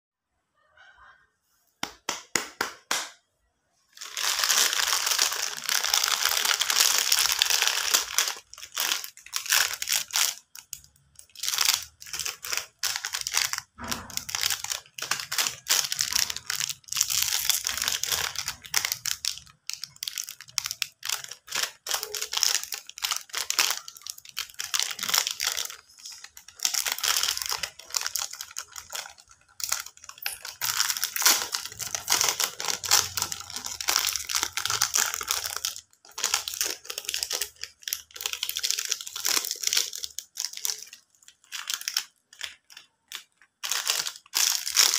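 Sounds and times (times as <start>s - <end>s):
plastic wrappers crinkling: 3.9s - 44.9s.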